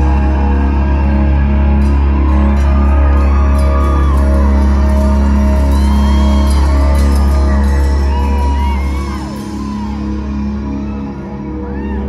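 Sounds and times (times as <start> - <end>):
audience whooping: 0.0 - 12.0.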